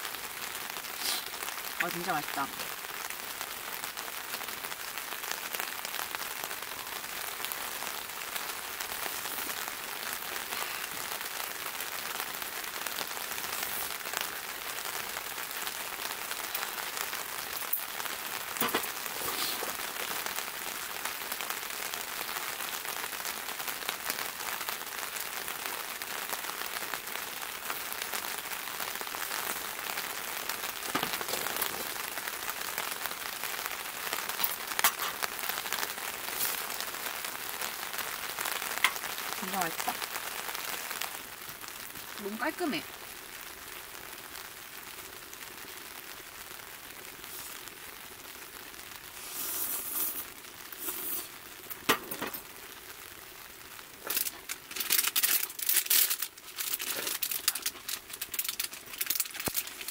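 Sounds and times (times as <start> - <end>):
rain pattering on a tent: 0.0 - 59.9.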